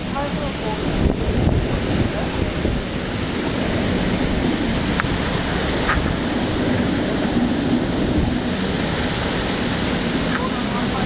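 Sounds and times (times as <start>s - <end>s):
wind buffeting microphone: 0.0s - 11.0s
wind rushing: 0.0s - 11.0s.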